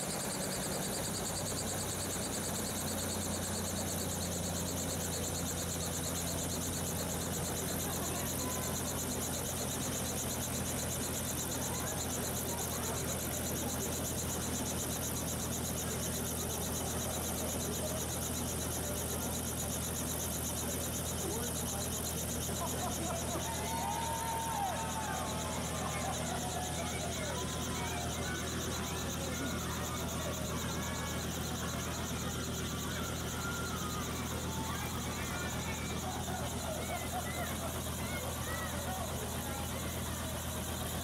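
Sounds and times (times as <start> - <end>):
helicopter idling: 0.0 - 41.0.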